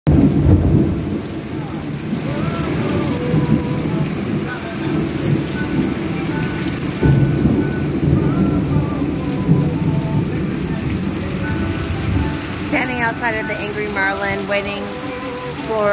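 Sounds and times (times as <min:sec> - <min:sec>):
low rumble: 0:00.1 - 0:13.7
heavy rain splashing off awning: 0:00.1 - 0:15.9.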